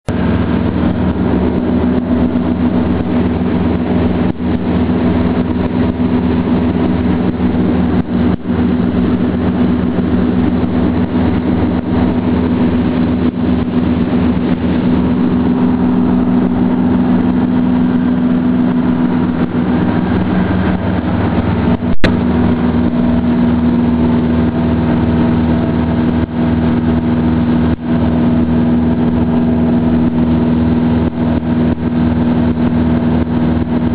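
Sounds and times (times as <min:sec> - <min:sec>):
boat engine droning: 0:00.0 - 0:33.9.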